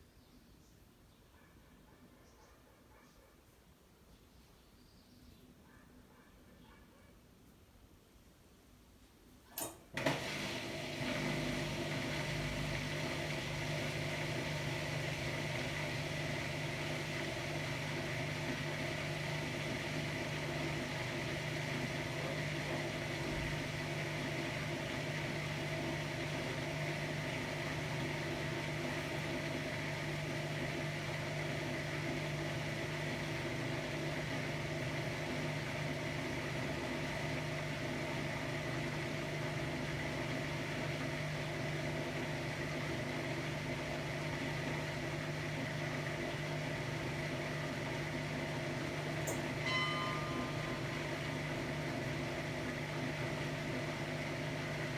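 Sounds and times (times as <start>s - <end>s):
motor humming with high whine: 9.6s - 54.9s.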